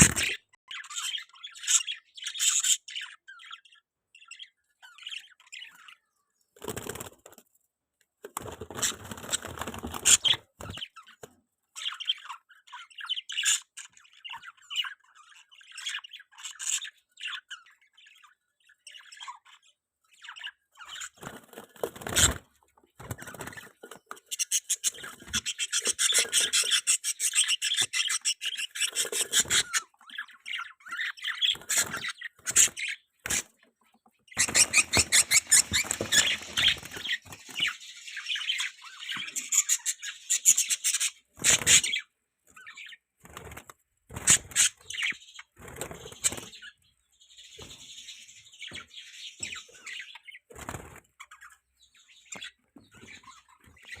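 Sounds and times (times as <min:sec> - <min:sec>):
budgerigars chattering and warbling: 0:00.0 - 0:07.4, 0:08.4 - 0:54.0.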